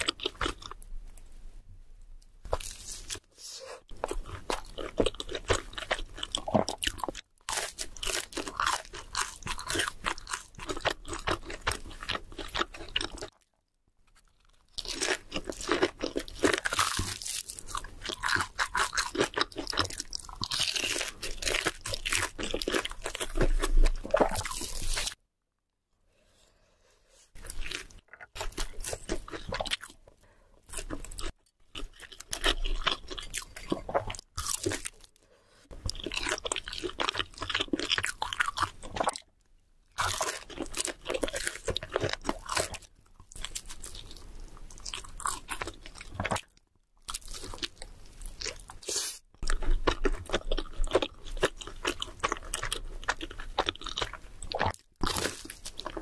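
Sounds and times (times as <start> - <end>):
crunchy chewing of food: 0.0 - 1.3, 2.5 - 25.2, 27.4 - 39.3, 39.9 - 56.0.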